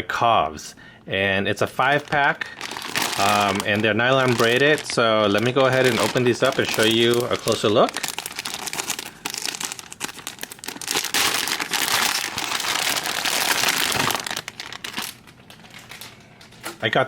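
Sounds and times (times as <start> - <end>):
packaging crinkling: 1.8 - 16.6.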